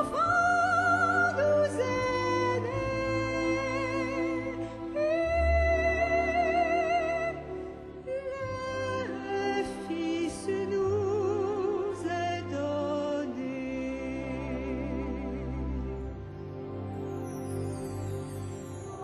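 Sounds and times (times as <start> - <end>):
slow carol sung with vibrato: 0.0 - 19.0
string orchestra accompaniment: 0.0 - 19.0.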